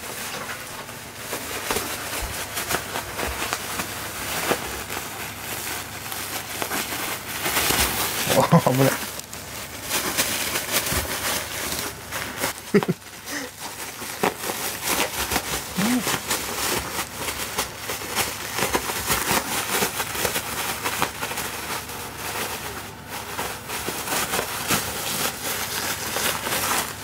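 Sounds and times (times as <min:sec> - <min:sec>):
plastic packing bag crinkling: 0:00.0 - 0:27.0.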